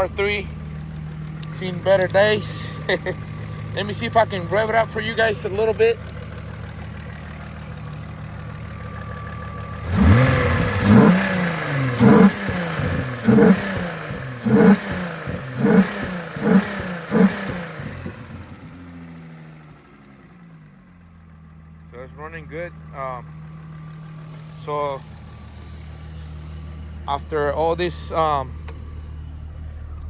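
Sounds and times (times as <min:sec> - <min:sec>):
car engine idling: 0:00.0 - 0:30.0
car engine revving: 0:00.0 - 0:30.0.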